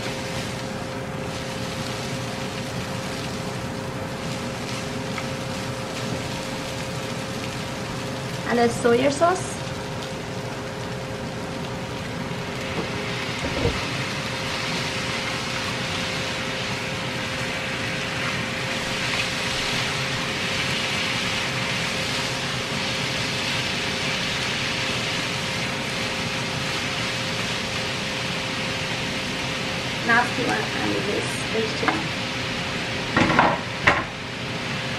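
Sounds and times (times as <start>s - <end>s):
noodles sizzling in frying pan: 0.0s - 34.9s.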